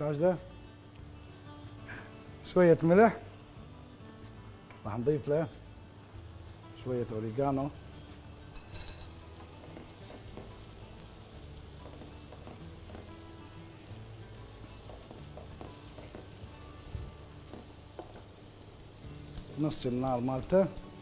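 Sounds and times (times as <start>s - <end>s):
sauce simmering and sizzling: 0.4s - 4.7s, 5.6s - 21.0s.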